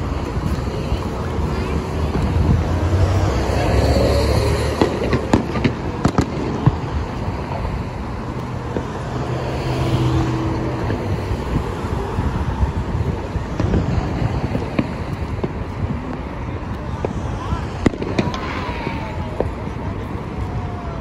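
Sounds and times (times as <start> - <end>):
distant fireworks cracking: 0.0 - 21.0
freeway traffic noise: 0.0 - 21.0.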